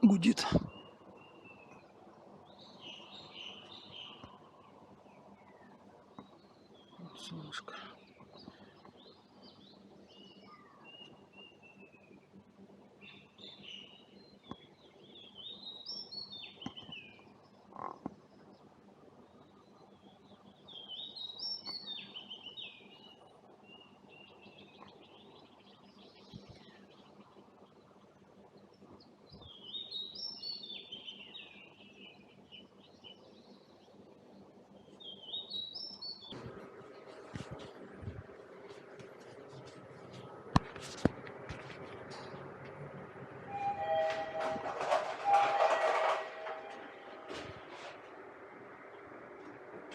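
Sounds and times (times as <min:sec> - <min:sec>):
air conditioner hum: 0:00.0 - 0:49.9
songbirds chirping: 0:00.0 - 0:49.9.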